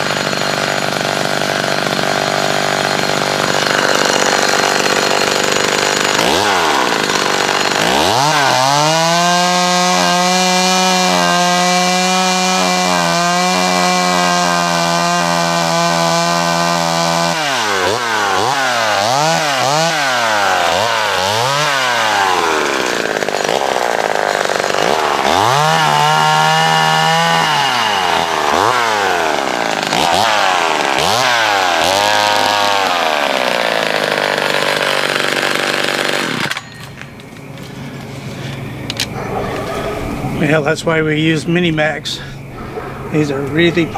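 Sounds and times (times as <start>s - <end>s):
chainsaw revving and cutting: 0.0s - 36.6s.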